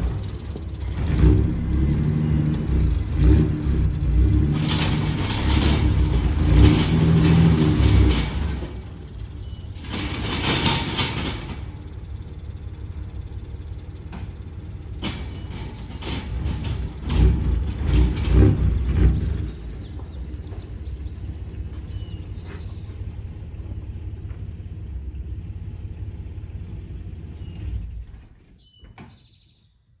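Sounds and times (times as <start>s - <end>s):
van engine running: 0.0s - 28.8s.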